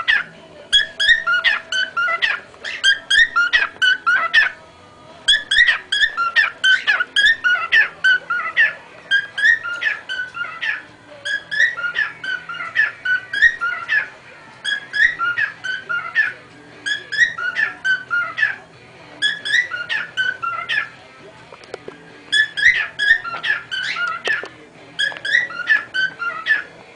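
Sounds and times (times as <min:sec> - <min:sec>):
cockatiel whistling: 0:00.0 - 0:04.6, 0:05.3 - 0:18.6, 0:19.2 - 0:20.9, 0:22.3 - 0:26.7.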